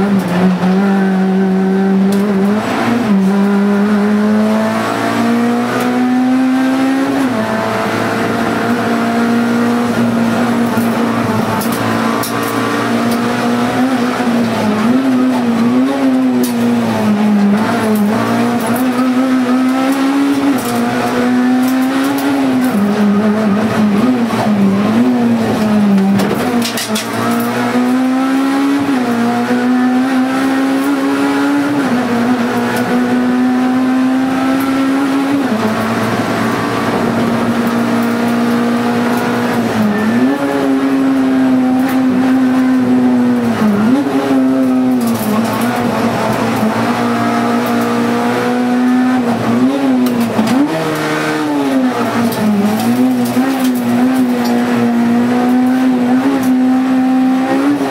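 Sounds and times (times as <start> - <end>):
car engine revving high: 0.0 - 57.9.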